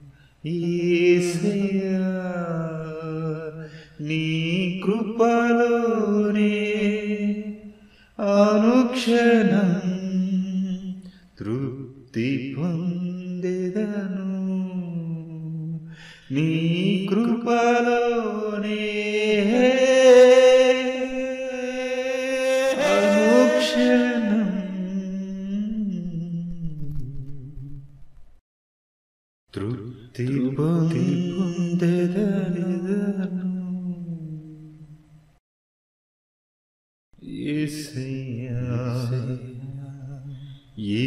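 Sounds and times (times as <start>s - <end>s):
person singing slow devotional song: 0.0s - 27.9s, 29.5s - 35.1s, 37.2s - 41.0s.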